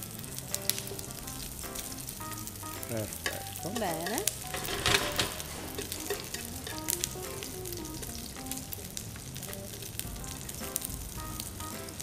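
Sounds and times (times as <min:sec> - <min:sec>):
food sizzling in hot oil: 0:00.0 - 0:12.0
sharp ticks and pops: 0:00.0 - 0:12.0.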